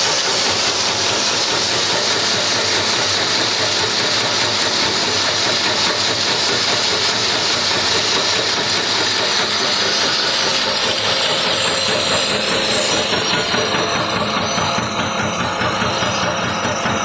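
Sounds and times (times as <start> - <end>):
peanut chopping machine running: 0.0 - 17.0.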